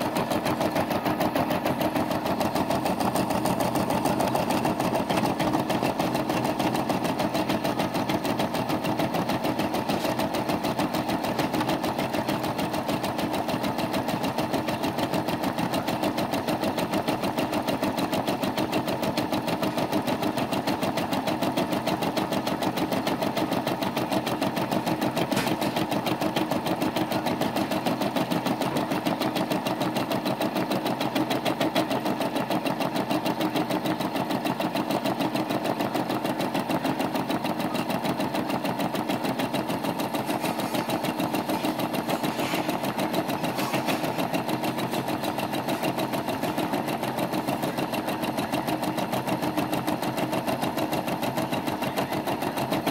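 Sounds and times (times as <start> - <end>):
embroidery machine stitching: 0.0 - 52.9.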